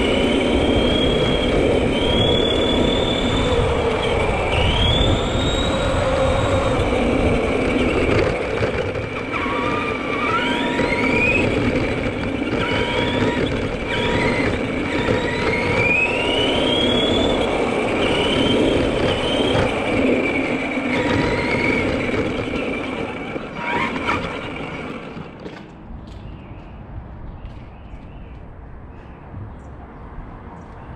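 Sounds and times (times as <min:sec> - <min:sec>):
steady noisy rumble: 0:00.0 - 0:30.9
toy truck motor whining: 0:00.5 - 0:25.4.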